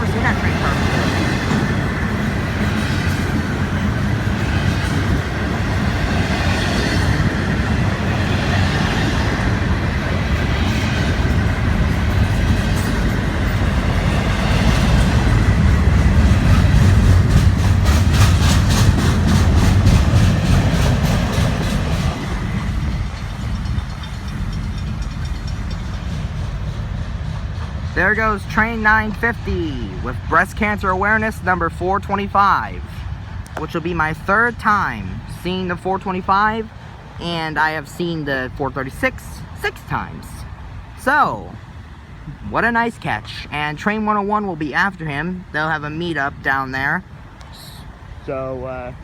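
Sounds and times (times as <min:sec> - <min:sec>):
train cars rumbling past: 0:00.0 - 0:49.0.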